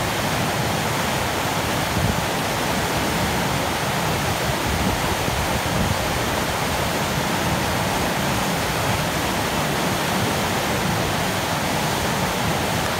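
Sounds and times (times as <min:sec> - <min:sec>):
rapids roaring over boulders: 0:00.0 - 0:12.9.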